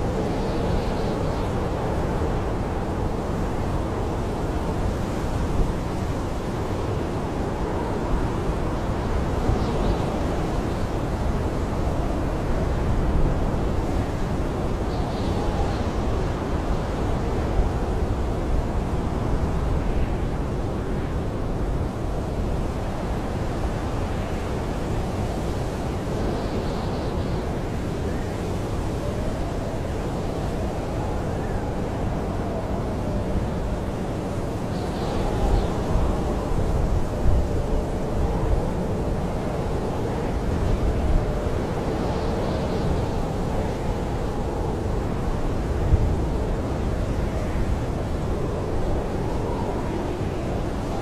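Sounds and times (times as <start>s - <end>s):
wind howling around tent: 0.0s - 51.0s.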